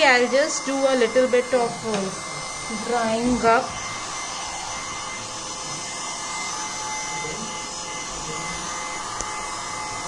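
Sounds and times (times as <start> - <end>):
faint motor whine: 0.0 - 10.0
heat gun blowing air: 0.0 - 10.0.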